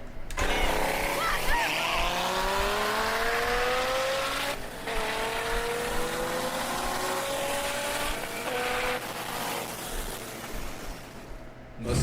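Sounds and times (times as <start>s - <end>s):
car engines at full throttle: 0.6s - 10.7s.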